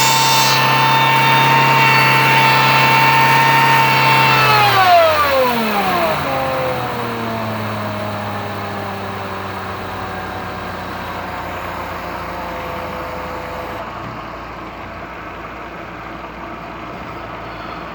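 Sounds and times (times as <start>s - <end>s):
supercharger whine: 0.0s - 14.6s
car engine idling: 0.0s - 15.7s.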